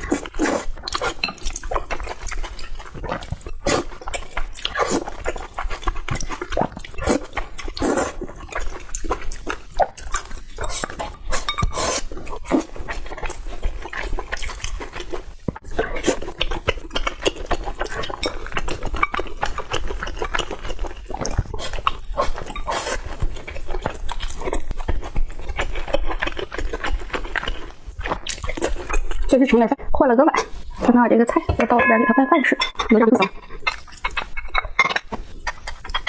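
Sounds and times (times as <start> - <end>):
person chewing with mouth smacks: 0.0 - 29.3, 33.3 - 36.0.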